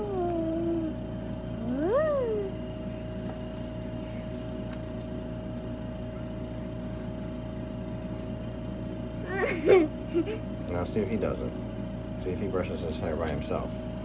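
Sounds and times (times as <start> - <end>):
air compressor humming: 0.0 - 14.0.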